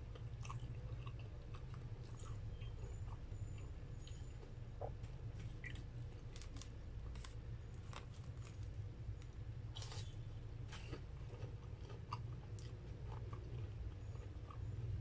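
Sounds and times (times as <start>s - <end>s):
crunchy chewing: 0.0s - 15.0s
steady low hum: 0.0s - 15.0s.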